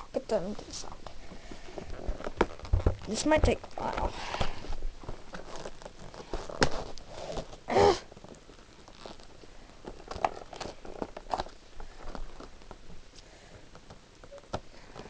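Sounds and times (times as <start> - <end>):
packaging crinkling and rustling: 0.4 - 15.0.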